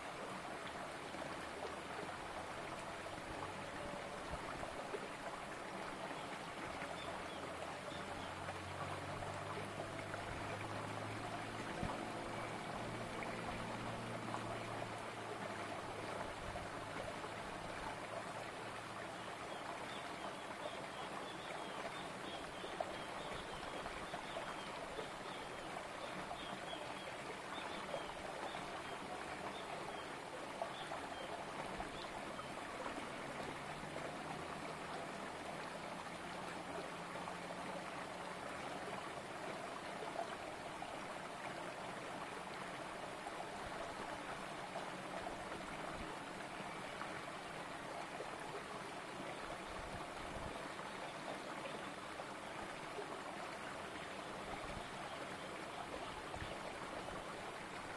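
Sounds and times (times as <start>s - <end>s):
creek water trickling and splashing: 0.0s - 57.9s.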